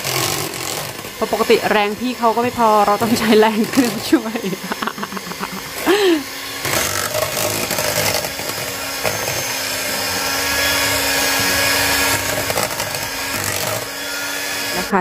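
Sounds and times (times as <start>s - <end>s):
electric hand mixer whipping: 0.0s - 15.0s.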